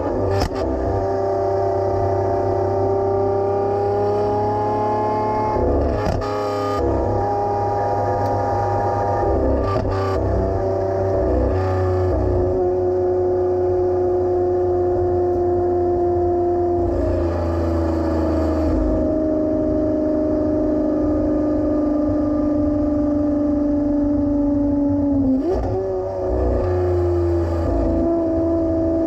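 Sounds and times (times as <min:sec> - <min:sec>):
car engine deep rumble: 0:00.0 - 0:29.0.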